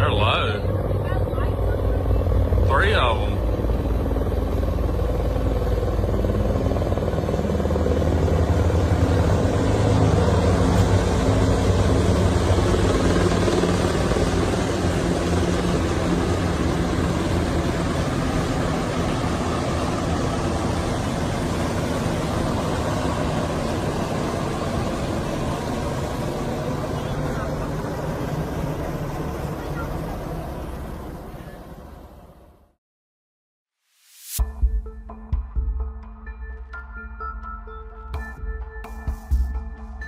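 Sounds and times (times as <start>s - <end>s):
loud engine drone: 0.0s - 32.1s.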